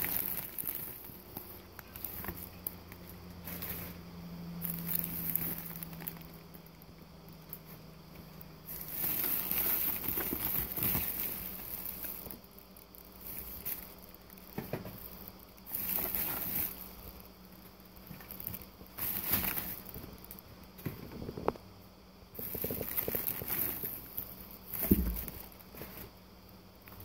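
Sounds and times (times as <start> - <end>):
plastic and paper packaging crinkling: 0.0 - 21.5, 22.4 - 26.1.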